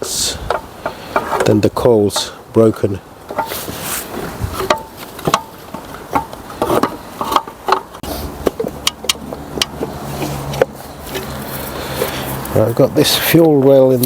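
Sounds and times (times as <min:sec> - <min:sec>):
engine parts clicking and knocking: 0:00.4 - 0:02.4, 0:03.2 - 0:12.6.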